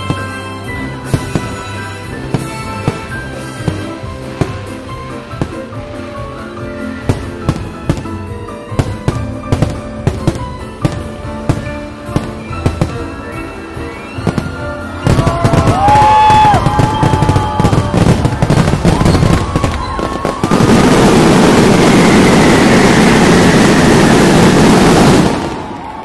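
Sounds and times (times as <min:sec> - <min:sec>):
falling whistles of fireworks: 0:00.0 - 0:26.0
fireworks bangs: 0:00.0 - 0:26.0
fireworks crackle: 0:00.0 - 0:26.0
music: 0:00.0 - 0:26.0.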